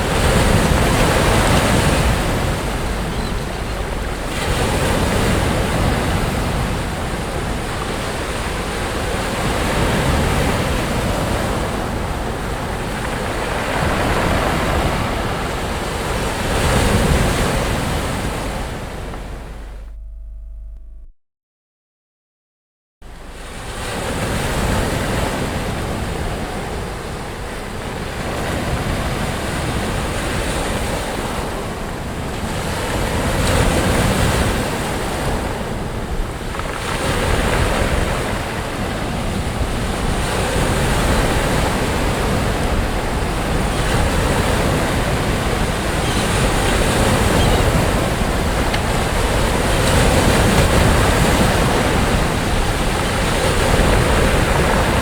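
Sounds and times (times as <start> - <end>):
waves washing onto beach: 0.0 - 19.7, 23.1 - 55.0
wind rumble on microphone: 0.0 - 21.1, 23.1 - 55.0.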